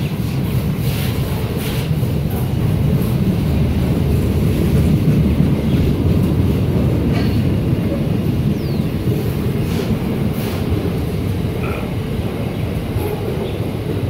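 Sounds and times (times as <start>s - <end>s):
train wheels rumbling on rail: 0.0s - 14.0s
wheels clicking over rail joints: 0.9s - 14.0s.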